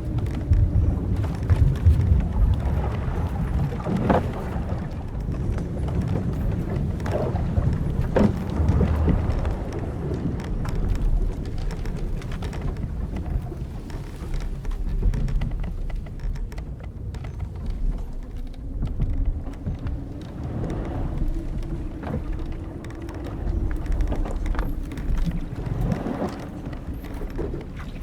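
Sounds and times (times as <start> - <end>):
low rumble of wind and sea: 0.0 - 28.0
ship timbers creaking: 0.0 - 28.0.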